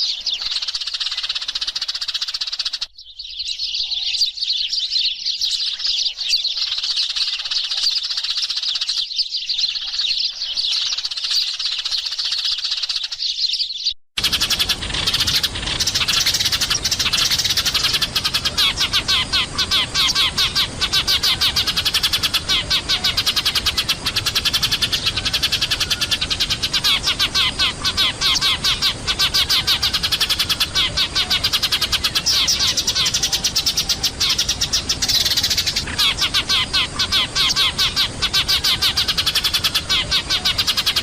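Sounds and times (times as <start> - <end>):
sparrows chirping: 0.0 - 41.0.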